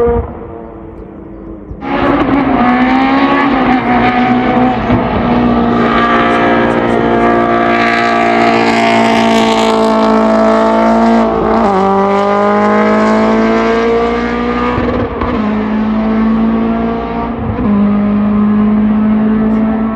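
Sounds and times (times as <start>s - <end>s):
race car engine accelerating: 0.0s - 19.9s.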